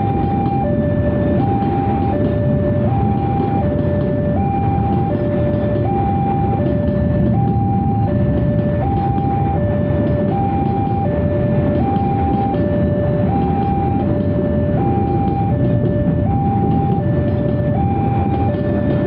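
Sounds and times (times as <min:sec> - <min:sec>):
freight train rumbling: 0:00.0 - 0:19.0
two-tone electronic warning alarm: 0:00.0 - 0:19.0.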